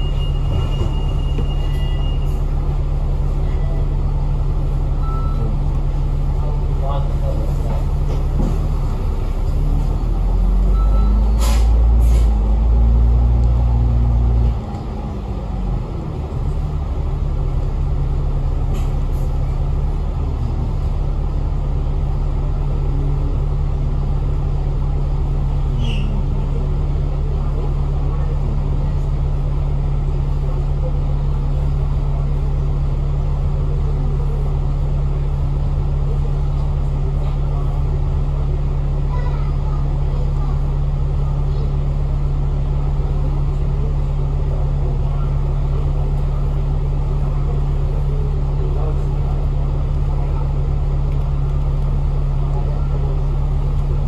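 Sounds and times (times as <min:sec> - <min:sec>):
bus engine revving: 0:00.0 - 0:54.0.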